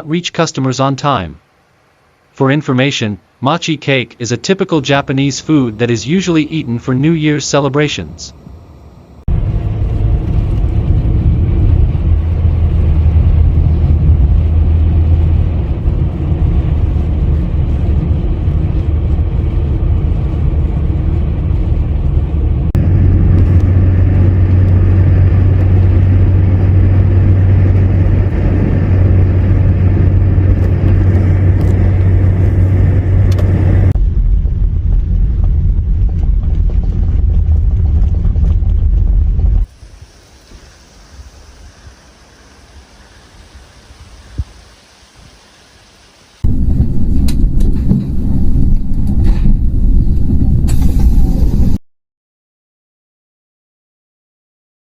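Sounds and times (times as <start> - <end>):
loud low rumbling: 3.2 - 44.5, 46.4 - 51.8.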